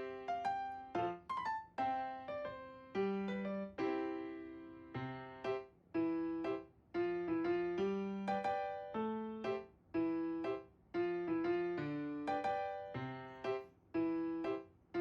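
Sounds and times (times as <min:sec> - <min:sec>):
gentle electric piano melody: 0:00.0 - 0:15.0.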